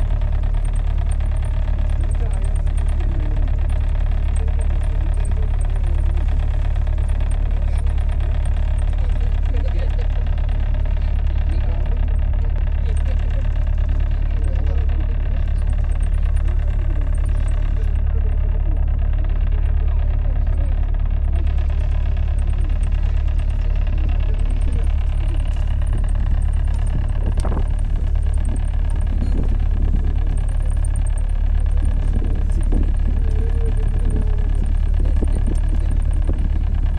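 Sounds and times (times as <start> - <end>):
boat engine droning: 0.0 - 36.9
faint voices: 0.0 - 36.9.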